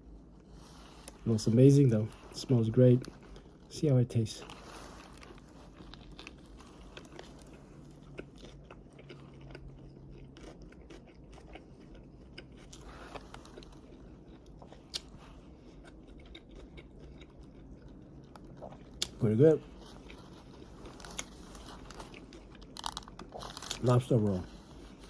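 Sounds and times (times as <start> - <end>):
person chewing food: 0.0 - 3.7, 4.3 - 25.0.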